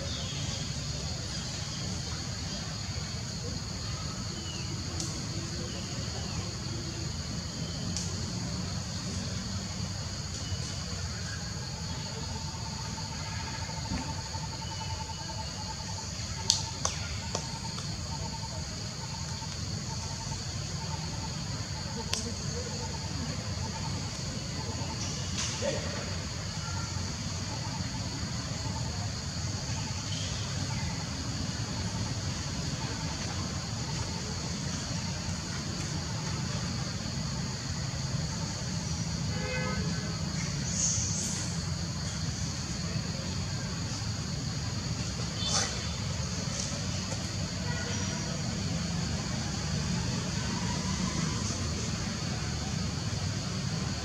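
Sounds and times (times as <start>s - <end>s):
fast insect trill: 0.0s - 54.0s
high-pitched hiss: 0.0s - 54.0s
high-pitched insect chorus: 0.0s - 54.0s.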